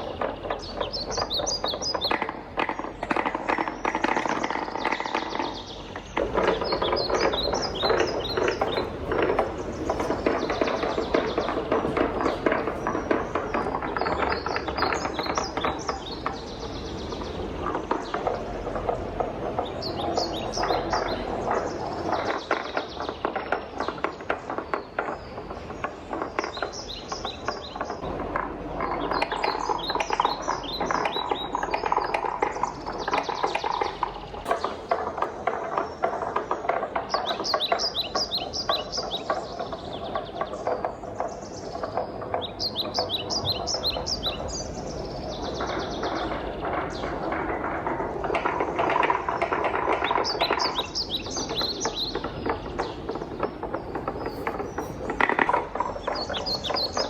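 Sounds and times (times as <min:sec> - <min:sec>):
birds chirping: 0:00.0 - 0:57.0
wooden balls rolling down track: 0:00.0 - 0:57.0.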